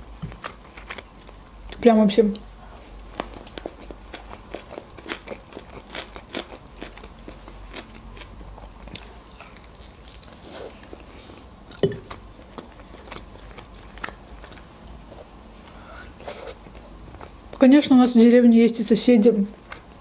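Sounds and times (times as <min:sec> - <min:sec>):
chewing and biting food: 0:00.0 - 0:01.8, 0:03.1 - 0:17.5.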